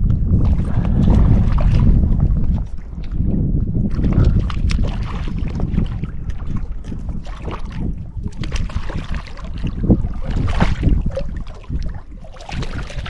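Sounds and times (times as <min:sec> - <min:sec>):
choppy water splashing: 0:00.0 - 0:13.0
wind buffeting microphone: 0:00.0 - 0:13.0.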